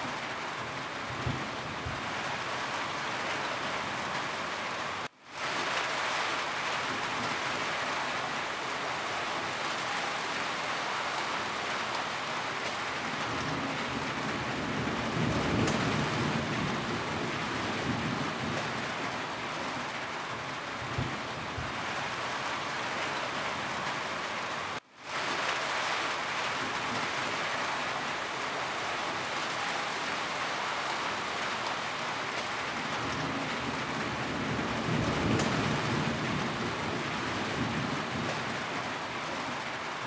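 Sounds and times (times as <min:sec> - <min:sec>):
heavy rain on a roof: 0:00.0 - 0:40.0.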